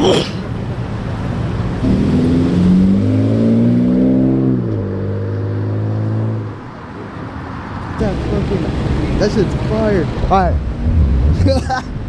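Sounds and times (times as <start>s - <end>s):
car engine revving: 0.0s - 6.6s, 8.0s - 12.0s.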